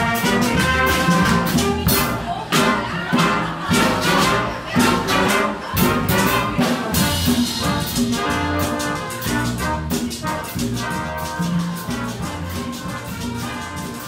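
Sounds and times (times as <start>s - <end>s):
latin brass band playing: 0.0s - 14.0s.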